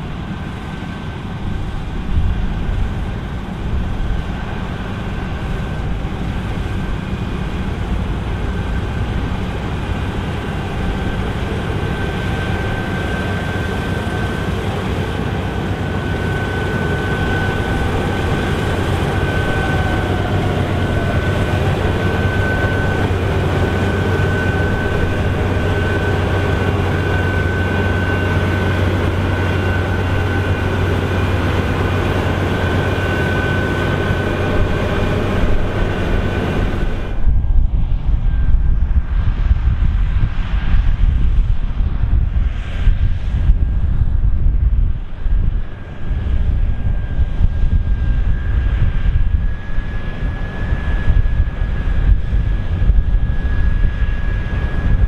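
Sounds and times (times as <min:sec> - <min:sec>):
combine harvester engine drone: 0:00.0 - 0:55.0
high whine: 0:00.0 - 0:55.0.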